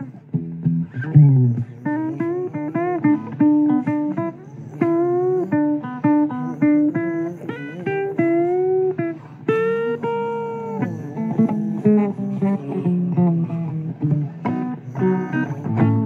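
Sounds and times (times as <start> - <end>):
blues guitar lead: 0.0 - 16.0.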